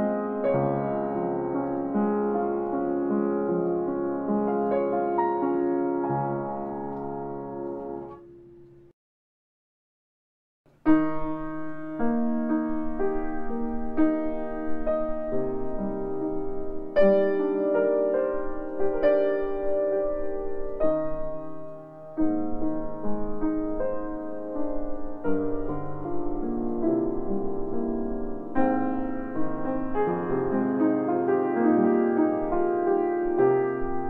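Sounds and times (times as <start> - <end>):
grand piano playing slow piece: 0.0 - 9.0, 10.7 - 34.0.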